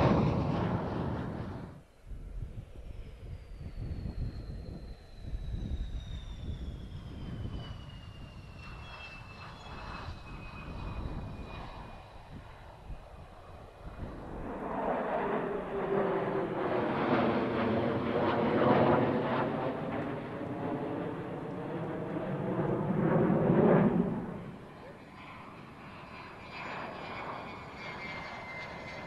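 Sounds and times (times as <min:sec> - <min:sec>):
jet engine whine on take-off: 0:00.0 - 0:29.0
jets flying over: 0:00.0 - 0:29.0.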